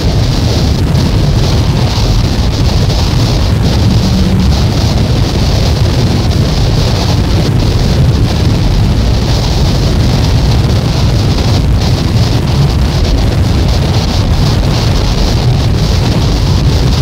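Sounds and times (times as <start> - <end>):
dense rumbling noise music: 0.0 - 17.0.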